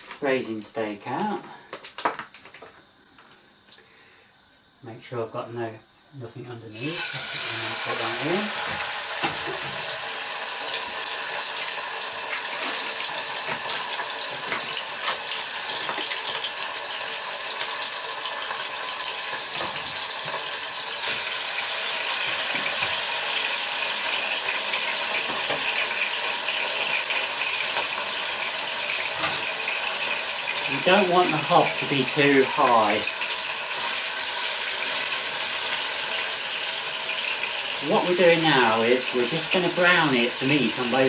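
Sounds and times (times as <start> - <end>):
meat sizzling in a pot: 6.6 - 41.0.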